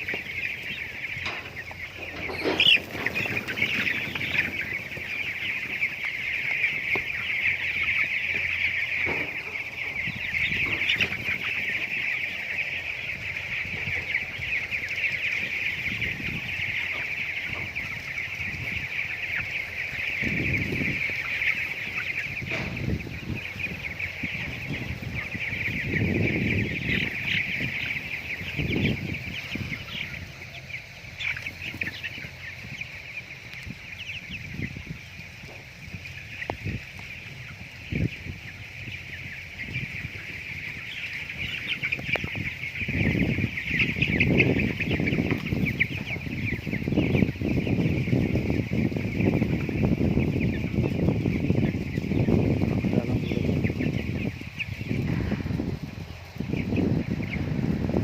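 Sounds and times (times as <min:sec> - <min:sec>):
chickens cheeping and clucking: 0:00.0 - 0:58.0.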